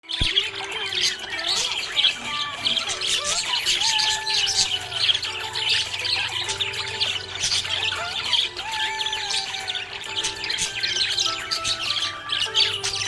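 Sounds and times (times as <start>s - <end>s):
budgerigar chirping and warbling: 0.1s - 13.0s.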